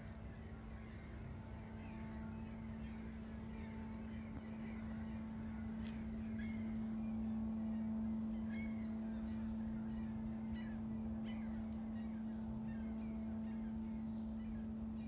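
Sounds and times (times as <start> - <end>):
birds chirping: 0.0 - 15.0
low mechanical hum: 0.0 - 15.0.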